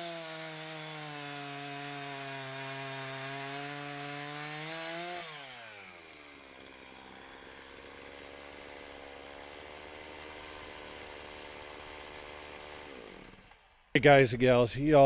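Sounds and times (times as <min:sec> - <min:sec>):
chainsaw engine idling: 0:00.0 - 0:14.0.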